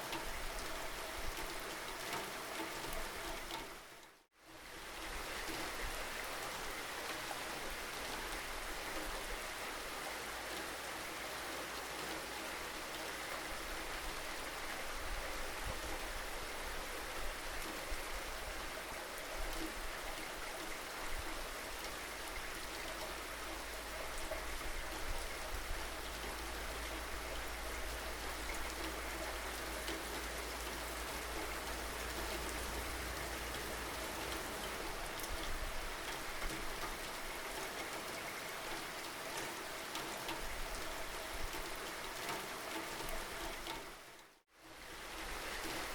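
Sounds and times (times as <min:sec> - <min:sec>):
steady rainfall: 0:00.0 - 0:45.9.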